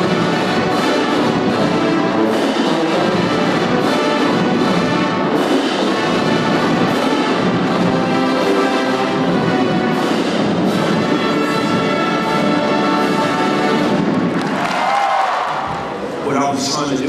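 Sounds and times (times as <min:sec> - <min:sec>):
marching band playing: 0:00.0 - 0:16.2.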